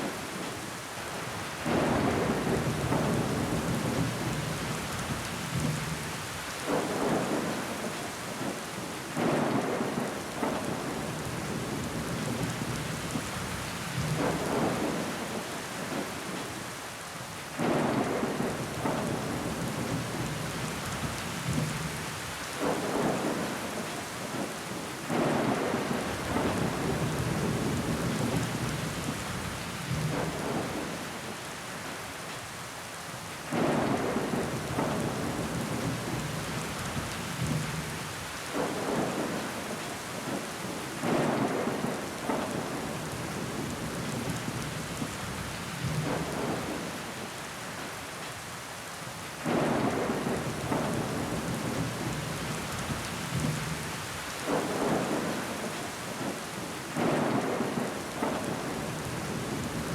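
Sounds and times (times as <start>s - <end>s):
rain against a window pane: 0.0s - 59.9s.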